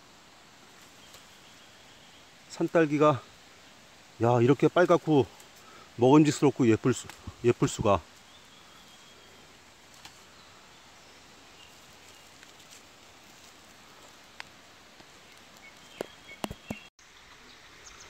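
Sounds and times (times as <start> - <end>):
soft steady hiss: 0.0 - 18.0.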